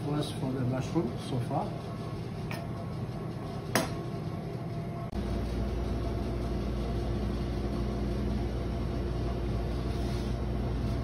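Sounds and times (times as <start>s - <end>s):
kitchen equipment humming: 0.0s - 11.0s.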